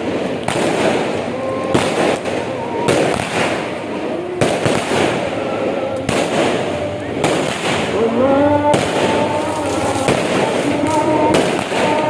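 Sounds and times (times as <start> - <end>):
firecrackers crackling: 0.0 - 12.0
firework bangs: 0.0 - 12.0.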